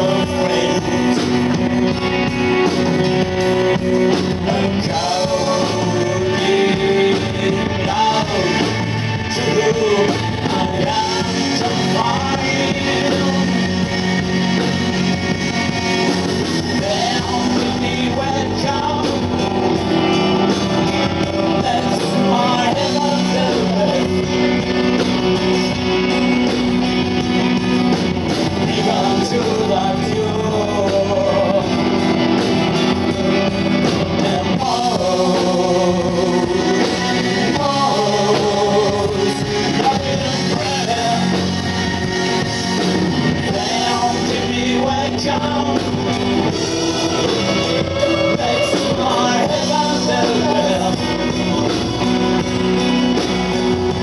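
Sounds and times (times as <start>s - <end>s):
man singing: 0.0s - 26.6s, 27.2s - 54.0s
rock band playing: 0.0s - 54.0s.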